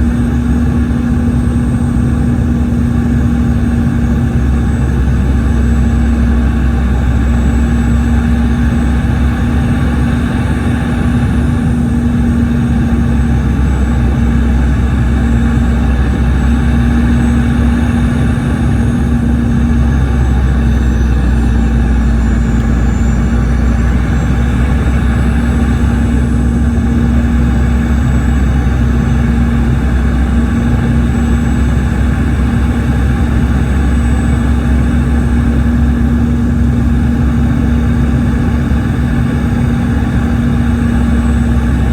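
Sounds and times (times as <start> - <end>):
aircraft cabin drone: 0.0 - 41.9
faint high engine whine: 0.0 - 41.9.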